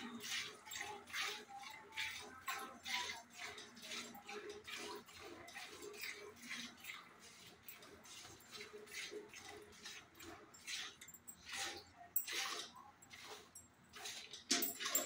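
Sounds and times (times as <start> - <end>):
milk squirting into steel pail: 0.0 - 15.0.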